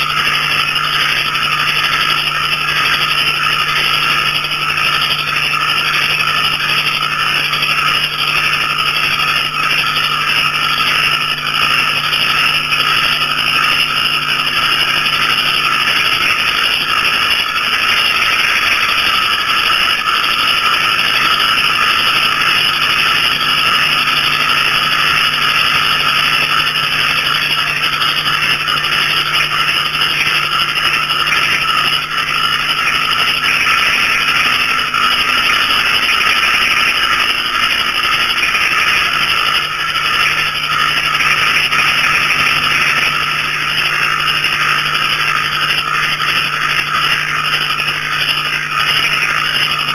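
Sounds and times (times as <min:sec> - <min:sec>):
frogs and crickets calling: 0:00.0 - 0:49.9.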